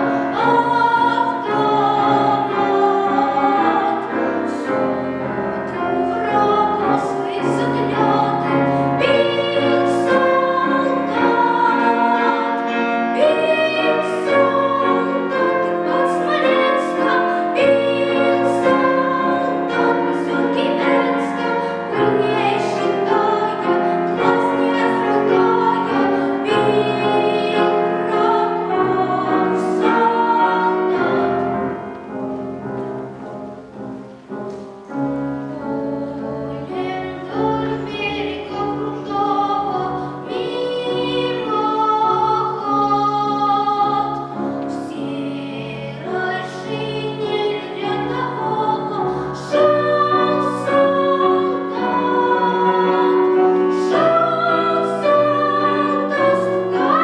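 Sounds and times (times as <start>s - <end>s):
child singing classical style: 0.0s - 57.0s
piano accompaniment: 0.0s - 57.0s.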